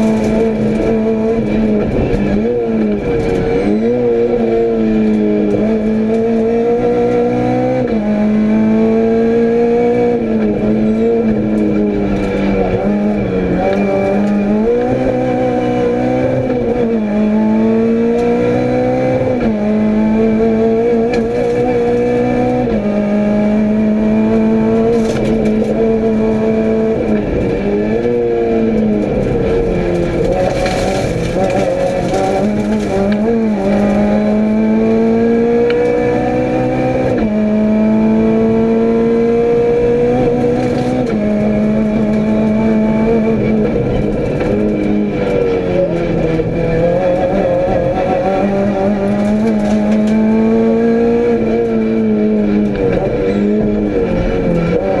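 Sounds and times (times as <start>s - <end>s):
rally car engine revving: 0.0s - 55.0s
road and tyre noise: 0.0s - 55.0s.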